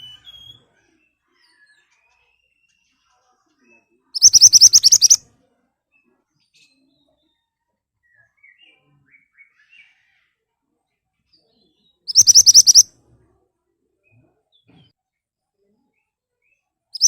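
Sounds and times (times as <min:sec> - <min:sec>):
faint soft bird chirps: 0:00.0 - 0:17.0.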